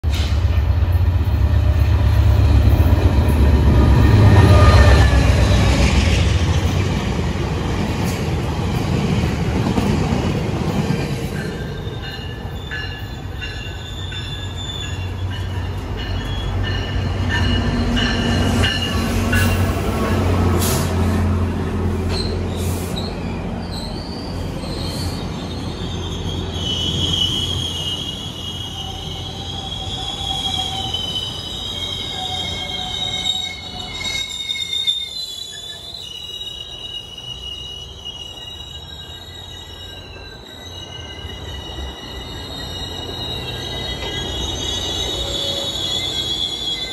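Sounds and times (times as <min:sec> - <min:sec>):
low train rumble: 0:00.0 - 0:46.9
train wheels squealing: 0:01.6 - 0:07.0, 0:08.0 - 0:46.9.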